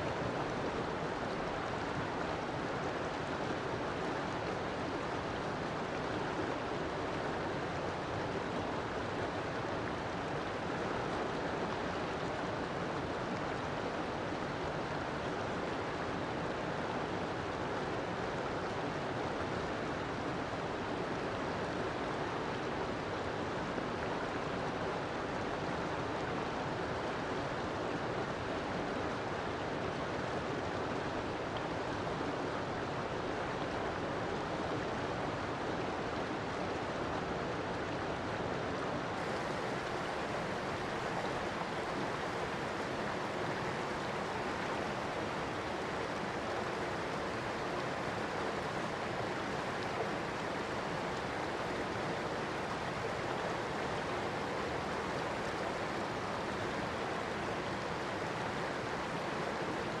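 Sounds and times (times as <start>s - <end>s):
river water flowing over rocks: 0.0s - 60.0s.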